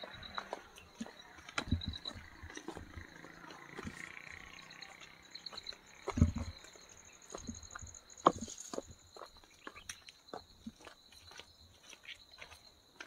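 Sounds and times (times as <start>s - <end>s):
footsteps on rocky dirt trail: 0.0s - 13.0s
insects chirring: 0.0s - 13.0s.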